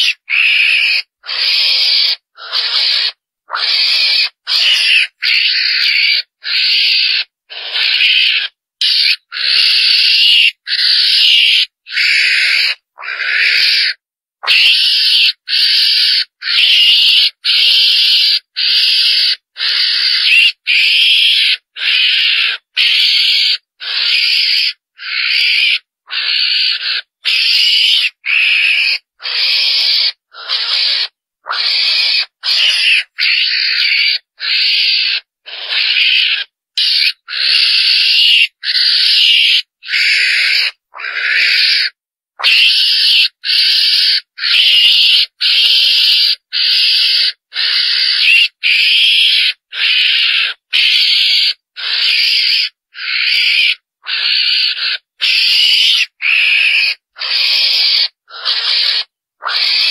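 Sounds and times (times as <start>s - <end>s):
high-pitched mongoose calls: 0.0s - 59.9s.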